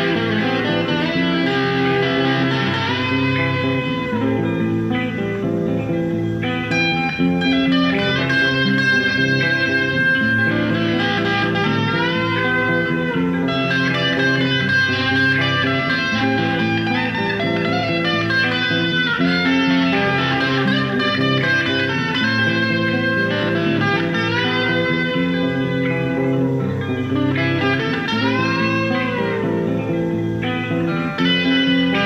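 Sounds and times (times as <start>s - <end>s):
electric guitar melody: 0.0s - 32.0s.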